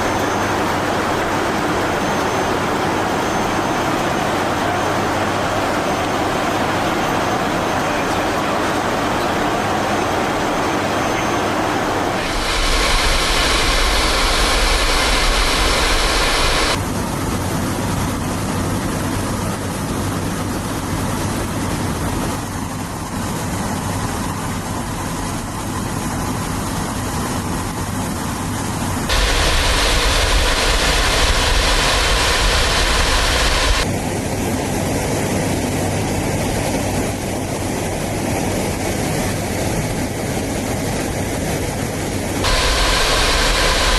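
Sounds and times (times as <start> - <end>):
turboprop engines roaring: 0.0 - 43.9.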